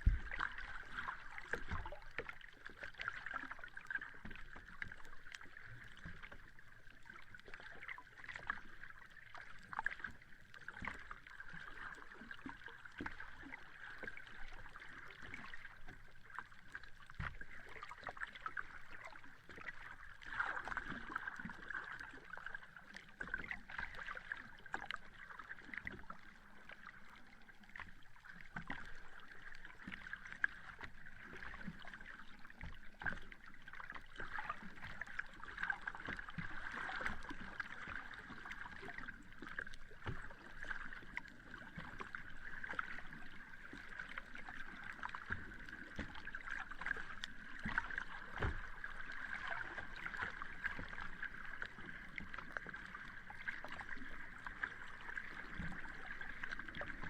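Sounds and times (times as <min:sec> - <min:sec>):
sea water lapping and splashing: 0:00.0 - 0:57.0.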